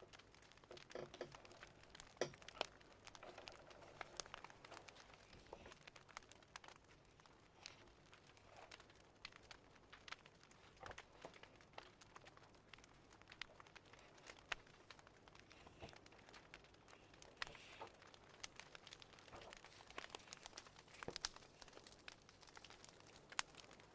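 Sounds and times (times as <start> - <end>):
fireplace crackling: 0.0 - 23.9
soft steady hiss: 0.0 - 23.9.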